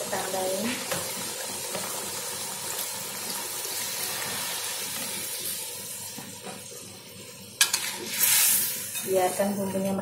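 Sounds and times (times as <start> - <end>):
sauce sizzling and bubbling in a wok: 0.0 - 10.0.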